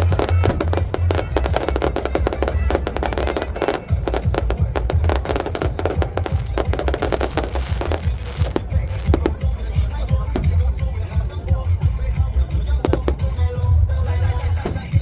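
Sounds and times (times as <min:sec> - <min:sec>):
fireworks cracking and popping: 0:00.0 - 0:13.6
loud music with heavy bass: 0:00.0 - 0:15.0.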